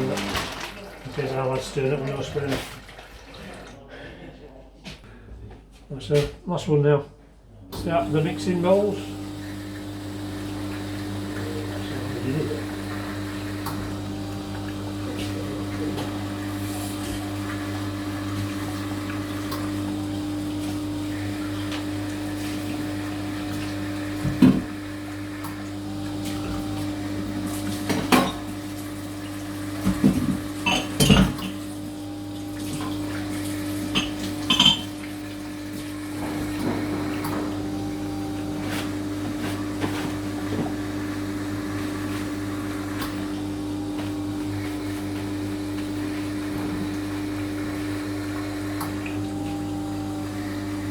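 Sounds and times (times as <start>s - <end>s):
coffee machine pump humming: 0.0s - 4.0s, 7.7s - 50.9s.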